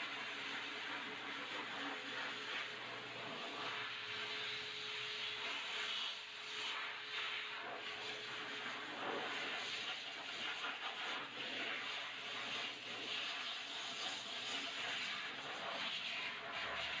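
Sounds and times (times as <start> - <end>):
pet dryer blowing air: 0.0 - 17.0.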